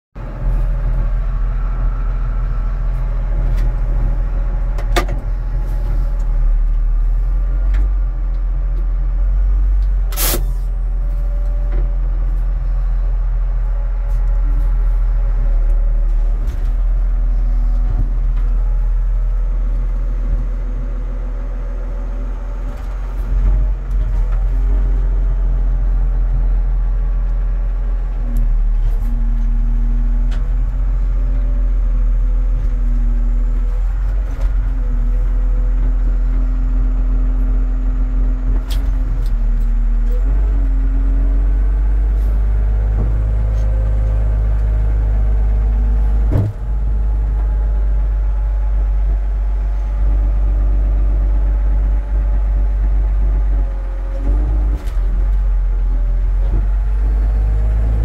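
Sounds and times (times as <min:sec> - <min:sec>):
engine drone in cab: 0:00.2 - 0:58.0.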